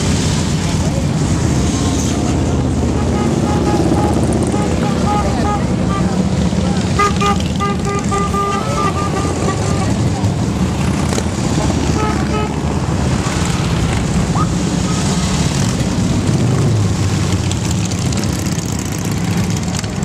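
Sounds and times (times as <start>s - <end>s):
motorcycles riding past: 0.0s - 20.0s.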